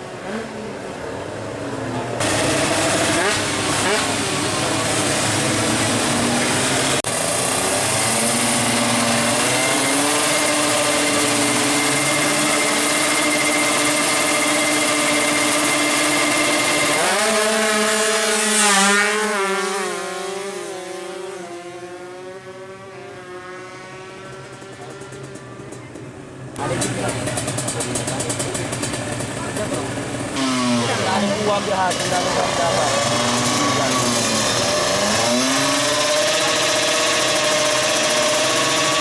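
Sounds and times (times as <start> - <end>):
two-stroke engine at high revs: 0.0 - 39.0.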